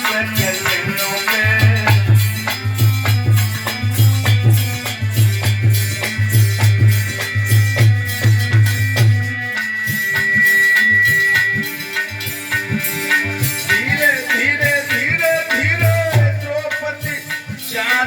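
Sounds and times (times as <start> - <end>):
heavy drum beat: 0.0 - 18.0
rattling percussion: 0.0 - 18.0.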